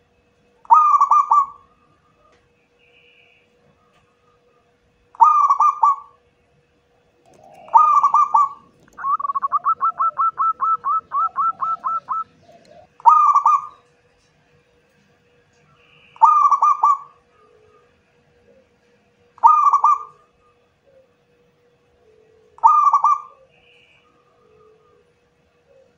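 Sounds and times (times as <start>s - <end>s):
dove cooing: 0.6s - 2.4s, 3.5s - 6.2s, 7.1s - 13.9s, 15.6s - 25.9s.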